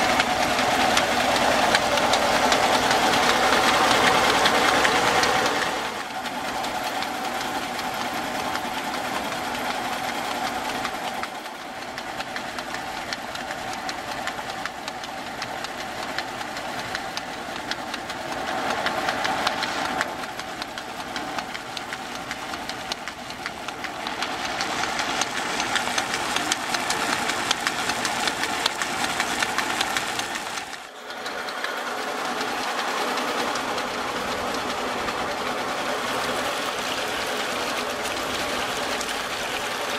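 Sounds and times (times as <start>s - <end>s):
belt-driven water pump clattering: 0.0s - 39.9s.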